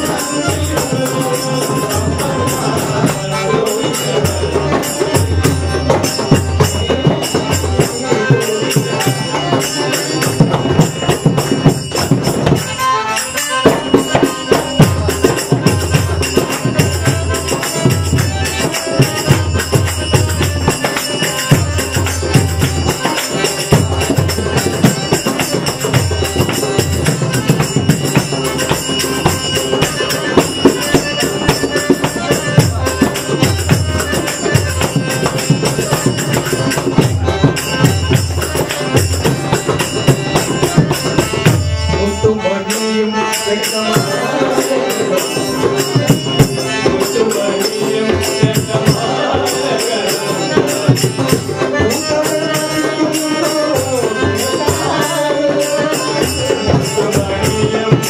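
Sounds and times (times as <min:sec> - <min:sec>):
harmonium: 0:00.0 - 0:58.0
jingling percussion: 0:00.0 - 0:58.0.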